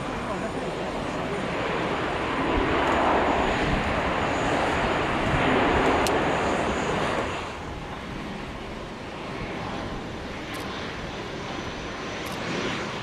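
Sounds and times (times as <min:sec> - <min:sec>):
jet engines roaring: 0:00.0 - 0:13.0
turboprop engine noise: 0:00.0 - 0:13.0.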